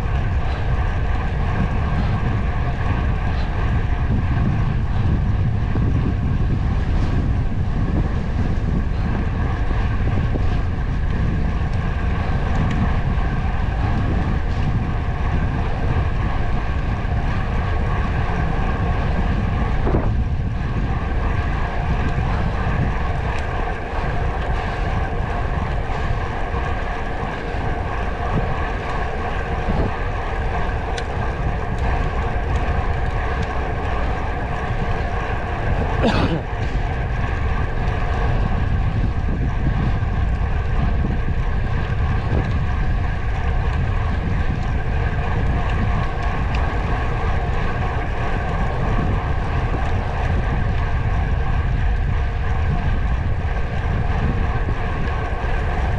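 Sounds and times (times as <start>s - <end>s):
vehicle drone: 0.0s - 55.9s
wind buffeting microphone: 0.0s - 55.9s.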